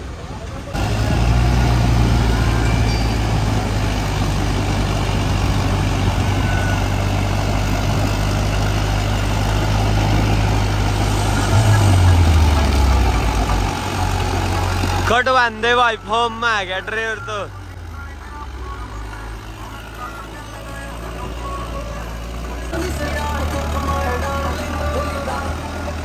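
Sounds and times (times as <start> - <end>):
tractor diesel engine revving: 0.0 - 26.0.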